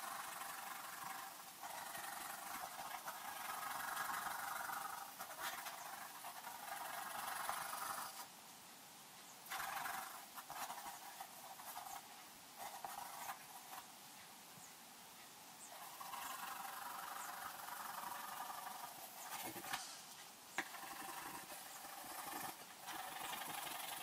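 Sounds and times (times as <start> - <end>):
pencil scratching on paper: 0.0 - 8.3, 9.5 - 13.9, 15.7 - 24.0.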